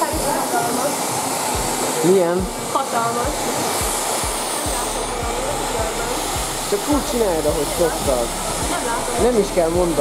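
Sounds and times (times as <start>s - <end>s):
hair dryer blowing: 0.0s - 10.0s.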